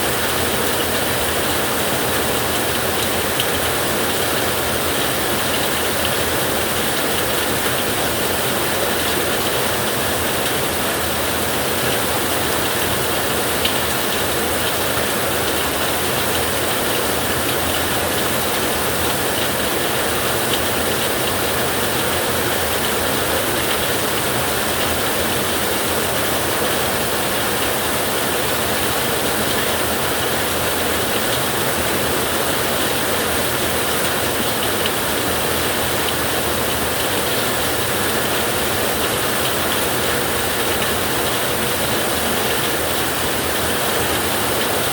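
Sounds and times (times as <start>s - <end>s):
rain on a metal roof: 0.0s - 44.9s.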